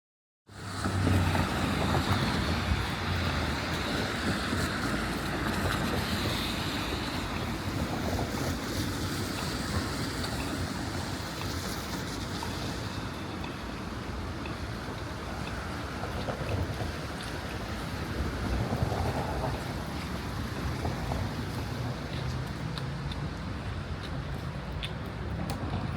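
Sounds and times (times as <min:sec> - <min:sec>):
steady rain: 0:00.6 - 0:25.9.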